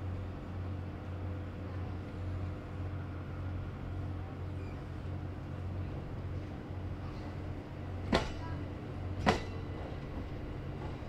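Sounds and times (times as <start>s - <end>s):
train moving with low hum: 0.0s - 11.0s.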